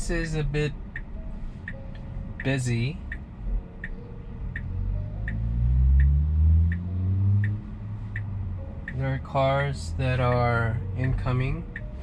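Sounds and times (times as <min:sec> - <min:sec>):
low vehicle rumble: 0:00.0 - 0:12.0
turn signal ticking: 0:00.0 - 0:12.0.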